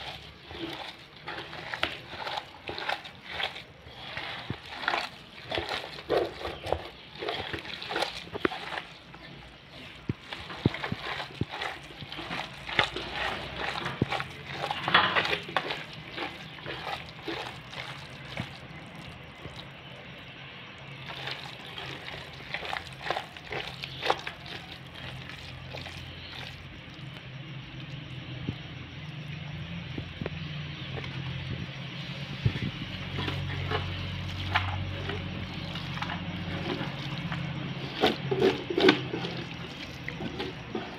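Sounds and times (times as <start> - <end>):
hand squelching wet mash: 0.0 - 40.9.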